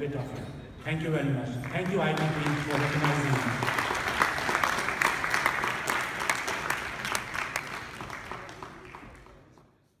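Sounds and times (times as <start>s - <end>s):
audience applauding: 1.6s - 9.6s.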